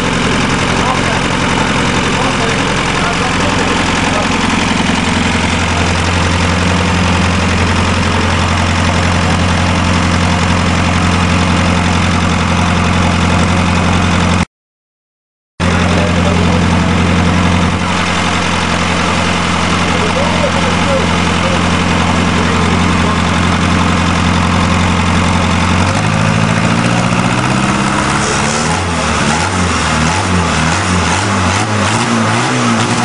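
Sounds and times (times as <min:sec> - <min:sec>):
diesel engine idling: 0:00.0 - 0:14.4, 0:15.6 - 0:33.0.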